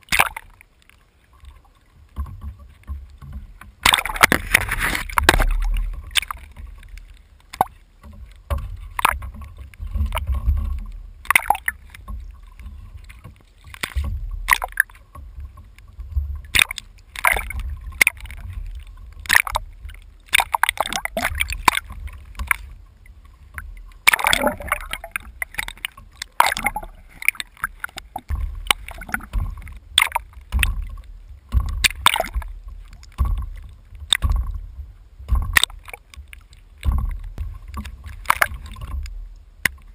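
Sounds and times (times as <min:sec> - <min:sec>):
constant low rumble: 0:00.0 - 0:39.9
water splashing against kayak: 0:00.0 - 0:39.9.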